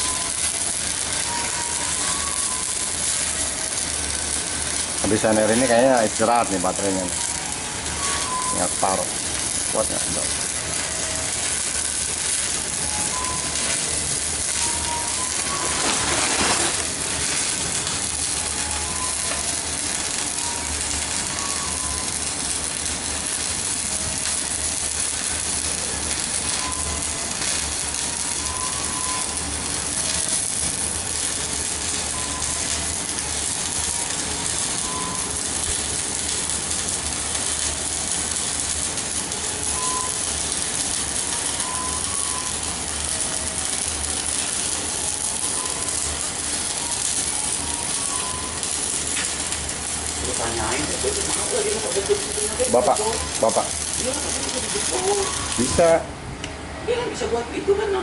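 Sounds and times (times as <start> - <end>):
arc welding crackling hiss: 0.0 - 58.0.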